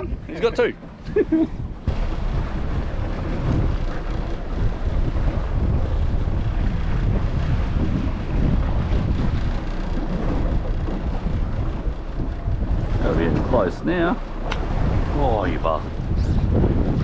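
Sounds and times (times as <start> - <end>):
sea washing around boat: 0.0 - 17.0
wind buffeting microphone: 0.0 - 17.0.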